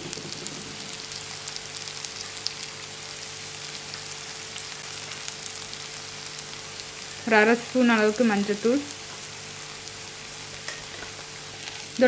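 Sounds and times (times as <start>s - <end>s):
shallots sizzling in oil: 0.0s - 12.0s.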